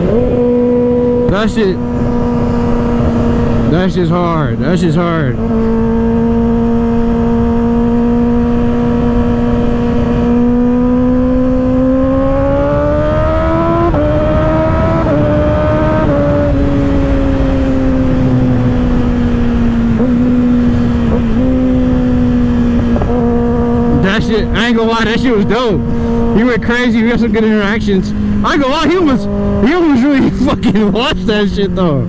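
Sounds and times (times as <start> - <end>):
wind rush: 0.0 - 7.8, 8.4 - 29.8
motorcycle engine revving: 0.0 - 32.0.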